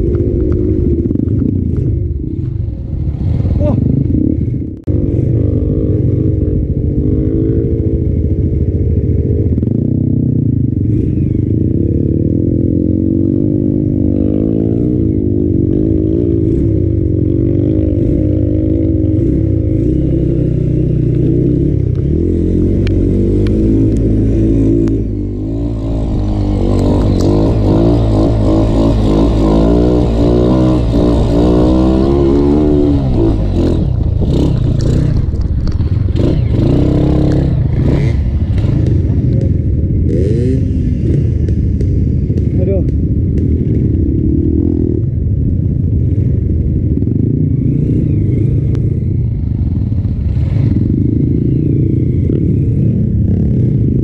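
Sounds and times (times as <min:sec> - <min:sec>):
dirt bike engine revving: 0:00.0 - 0:45.2.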